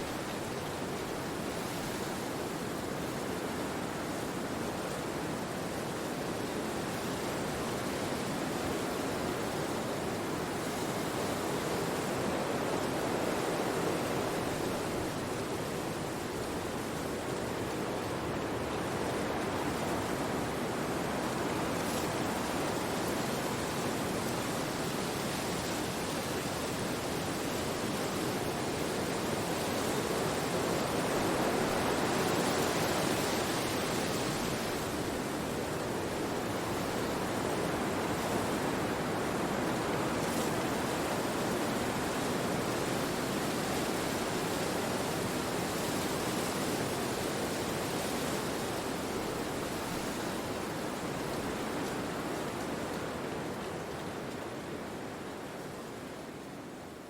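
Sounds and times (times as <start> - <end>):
wind rushing through trees: 0.0 - 57.0.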